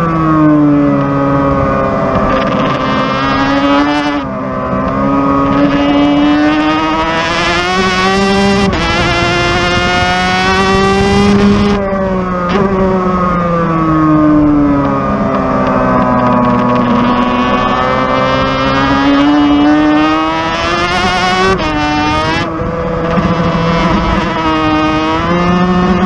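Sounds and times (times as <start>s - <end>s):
racing motorcycle engine revving: 0.0s - 26.0s.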